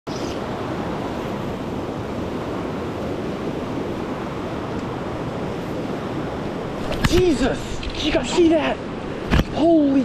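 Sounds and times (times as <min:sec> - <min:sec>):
river rapids rushing: 0:00.1 - 0:10.0.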